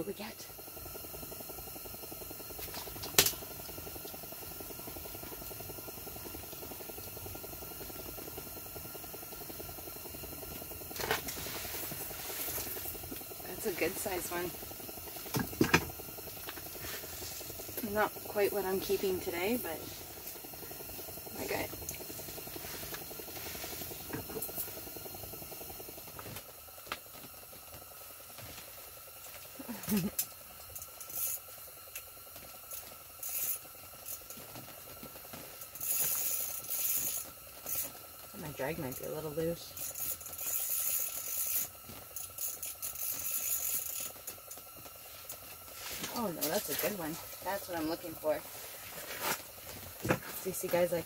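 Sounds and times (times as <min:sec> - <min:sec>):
faint steady hiss: 0:00.0 - 0:51.0.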